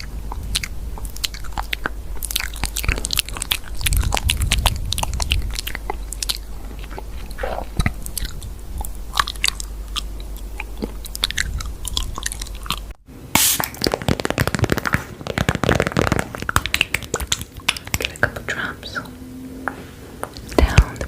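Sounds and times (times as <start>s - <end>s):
chewing and crunching: 0.0s - 13.0s, 13.6s - 19.1s.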